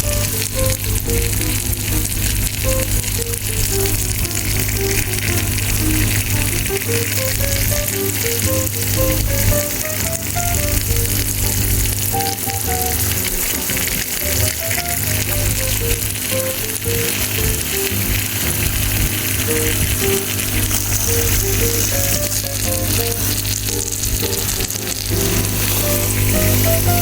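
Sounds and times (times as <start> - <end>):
food sizzling in hot oil: 0.0 - 27.0
light background melody: 0.0 - 27.0.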